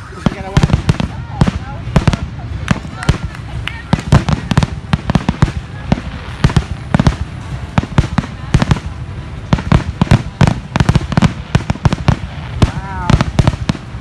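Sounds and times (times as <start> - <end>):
fireworks banging: 0.0 - 14.0.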